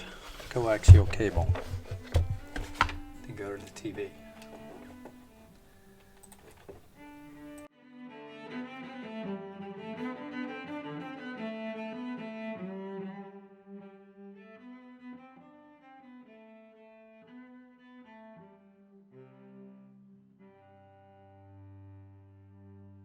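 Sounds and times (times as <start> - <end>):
bowed strings playing melody: 0.0 - 23.0.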